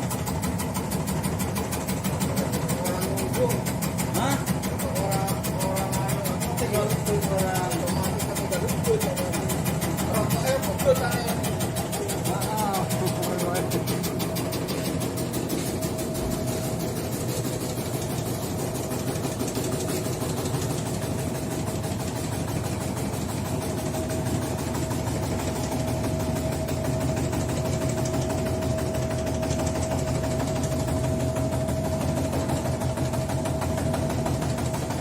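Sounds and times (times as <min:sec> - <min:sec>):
machine whining and chattering: 0:00.0 - 0:35.0.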